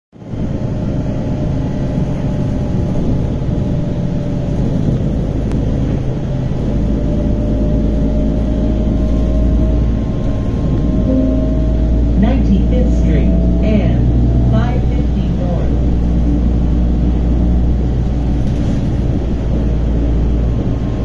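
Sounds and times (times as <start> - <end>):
bus engine and road rumble: 0.2 - 21.0.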